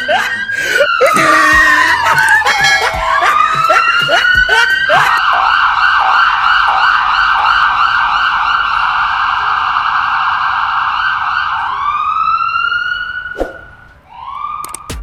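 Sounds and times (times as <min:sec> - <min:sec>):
police siren wailing and yelping: 0:00.0 - 0:15.0.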